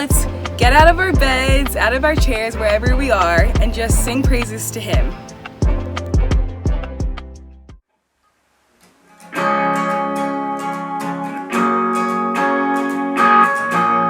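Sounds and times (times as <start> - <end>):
guitar strumming chords: 0.0 - 7.4, 9.0 - 14.0
beat-driven music: 0.0 - 7.8, 9.3 - 14.0.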